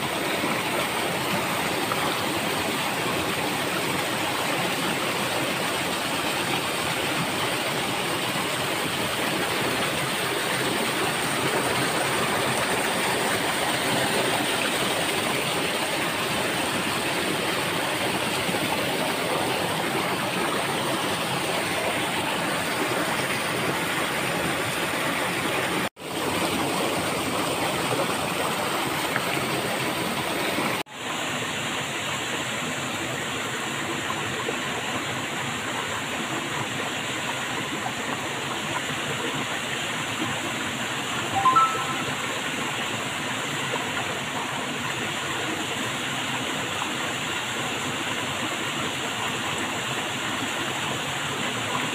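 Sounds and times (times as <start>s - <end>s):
waterfall rushing over rocks: 0.0s - 51.9s.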